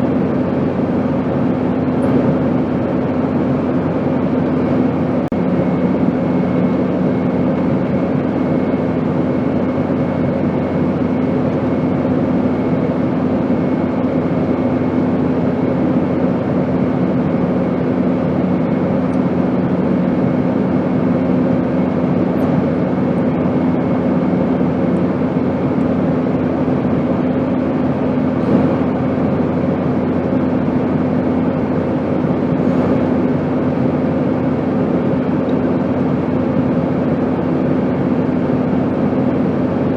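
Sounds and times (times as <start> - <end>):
airplane drone: 0.0 - 39.9.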